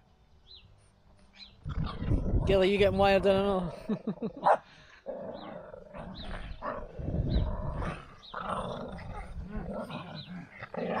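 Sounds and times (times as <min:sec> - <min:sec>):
small dogs growling and snarling: 0:01.6 - 0:11.0.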